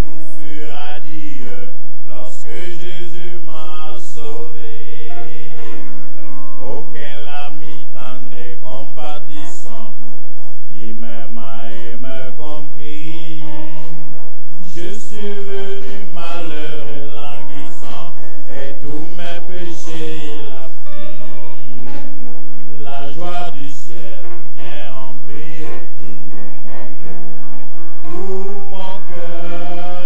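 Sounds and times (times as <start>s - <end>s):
voices singing worship chant: 0.0s - 10.0s, 10.7s - 30.0s
man singing into microphone: 0.0s - 27.2s, 28.0s - 30.0s.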